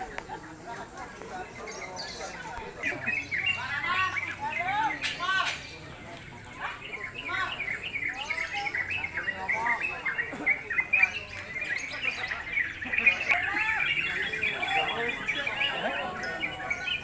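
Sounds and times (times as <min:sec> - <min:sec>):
bulbuls chattering: 0:00.0 - 0:17.0.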